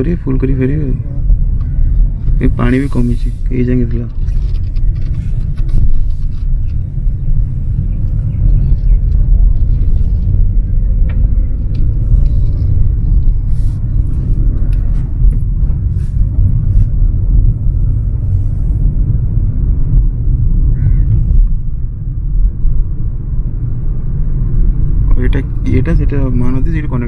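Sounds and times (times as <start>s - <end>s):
car interior low rumble: 0.0s - 27.0s.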